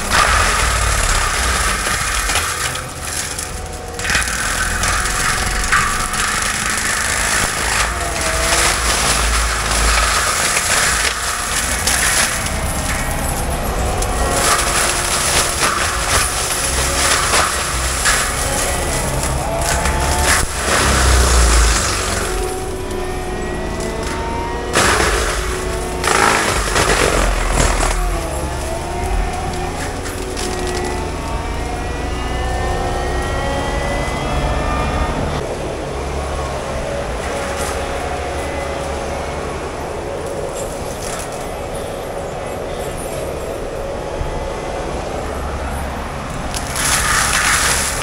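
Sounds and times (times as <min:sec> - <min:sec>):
diesel engine under load: 0:00.0 - 0:48.0
mulcher grinding brush and wood: 0:00.0 - 0:48.0.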